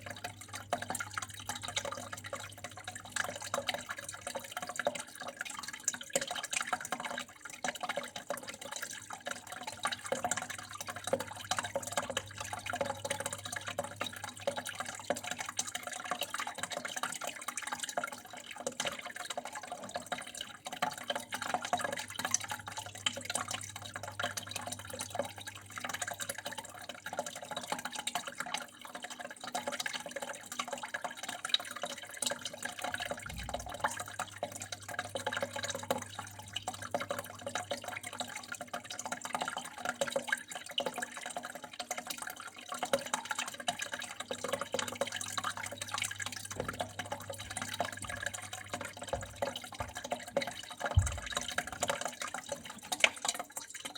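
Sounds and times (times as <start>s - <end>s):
small splashes and drips: 0.0s - 53.9s
water flowing and trickling: 0.0s - 53.9s.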